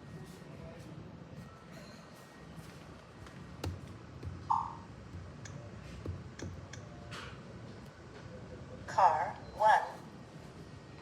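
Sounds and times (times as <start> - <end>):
low background hum: 1.4 - 11.0.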